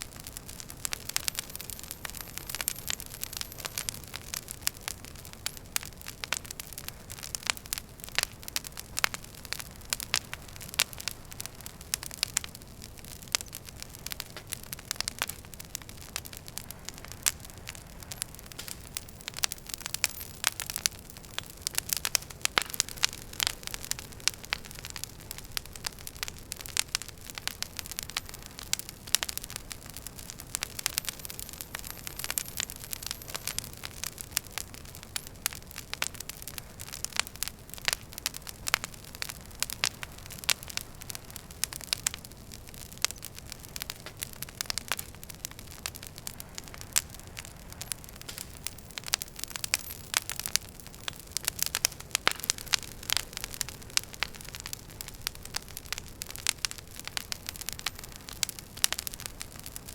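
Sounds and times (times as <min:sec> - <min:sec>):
soft hiss: 0:00.0 - 0:59.9
wood fire crackling: 0:00.0 - 0:59.9.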